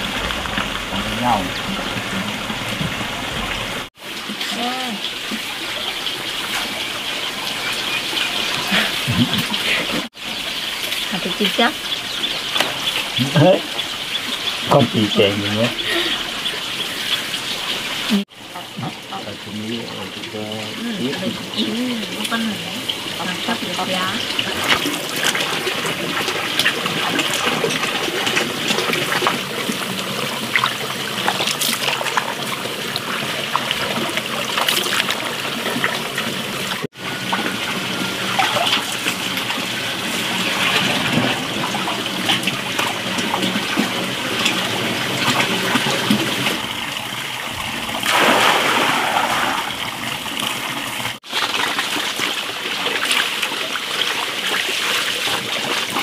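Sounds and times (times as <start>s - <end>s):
running water trickle: 0.0s - 56.0s
water splashing in basin: 0.0s - 56.0s.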